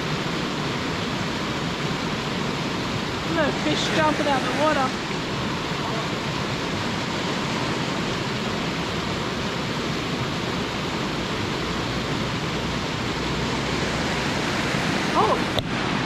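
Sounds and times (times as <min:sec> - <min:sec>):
water rushing over a weir: 0:00.0 - 0:16.0.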